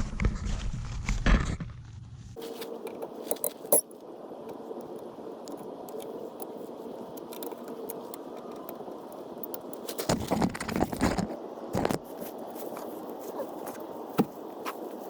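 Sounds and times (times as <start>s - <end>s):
steady background hum: 1.5s - 15.0s.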